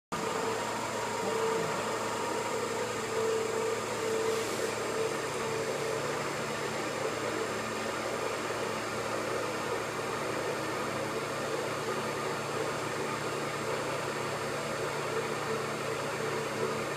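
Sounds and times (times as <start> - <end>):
pug mill humming and hissing: 0.2 - 16.9.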